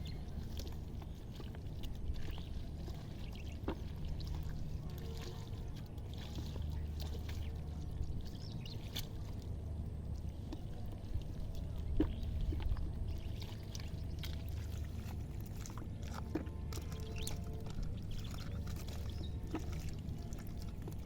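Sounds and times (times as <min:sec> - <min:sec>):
low hum: 0:00.0 - 0:21.0
water splashing and dripping: 0:00.0 - 0:21.0.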